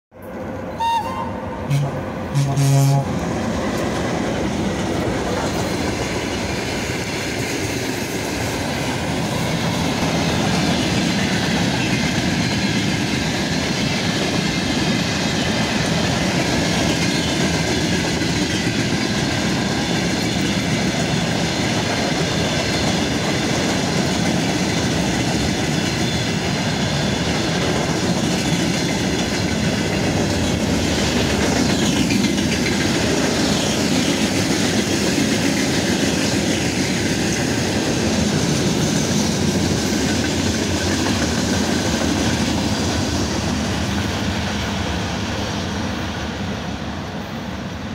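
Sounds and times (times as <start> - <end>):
freight train rolling past: 0.1 - 47.9.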